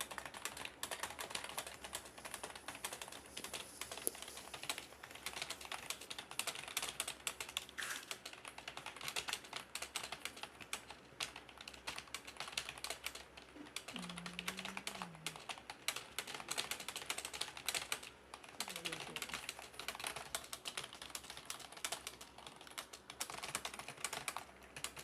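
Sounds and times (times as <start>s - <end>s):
computer keyboard typing: 0.0s - 25.0s.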